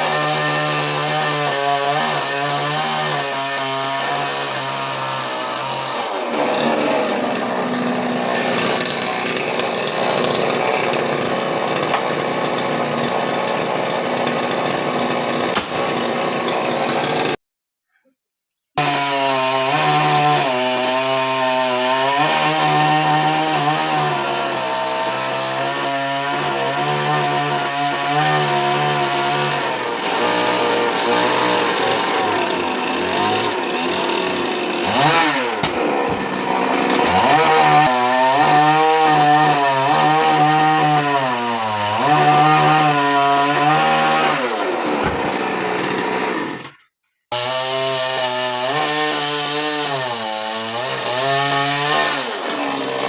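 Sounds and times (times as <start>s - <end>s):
chainsaw cutting wood: 0.0s - 17.4s, 18.8s - 53.0s.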